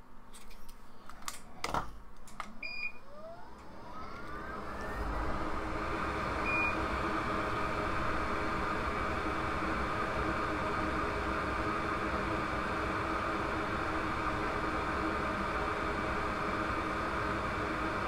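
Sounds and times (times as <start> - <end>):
fan whine blowing: 2.4 - 18.0.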